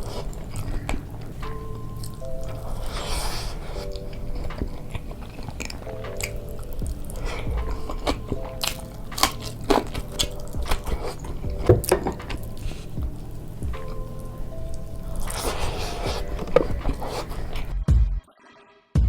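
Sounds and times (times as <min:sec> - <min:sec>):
wet mouth clicks: 0:00.0 - 0:17.7
biting and chewing: 0:00.0 - 0:17.8
light background music: 0:00.0 - 0:18.3.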